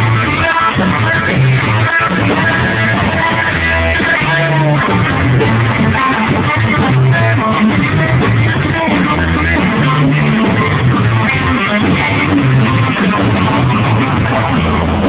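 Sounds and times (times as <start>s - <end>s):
bass line: 0.0s - 15.0s
electric guitar riff: 0.0s - 15.0s
rock band playing: 0.0s - 15.0s.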